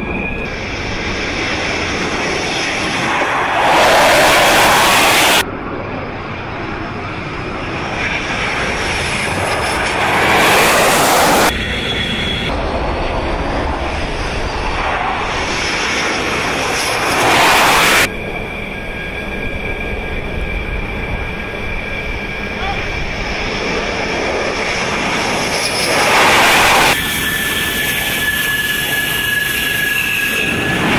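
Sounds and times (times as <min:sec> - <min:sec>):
jet engine roar: 0:00.0 - 0:30.9
thin high whine: 0:00.0 - 0:30.9.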